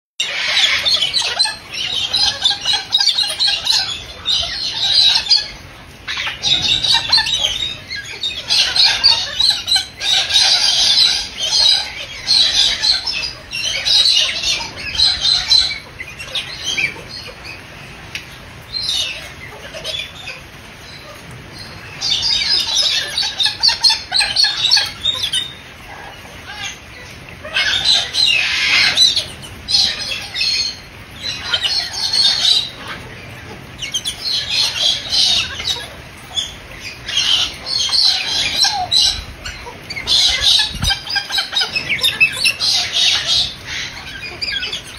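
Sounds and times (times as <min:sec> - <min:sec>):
cockatoos squawking: 0:00.2 - 0:44.9.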